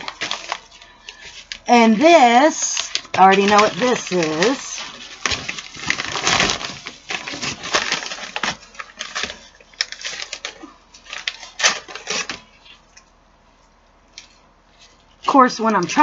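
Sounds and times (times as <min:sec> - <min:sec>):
packaging crinkling and tearing: 0:00.0 - 0:12.9.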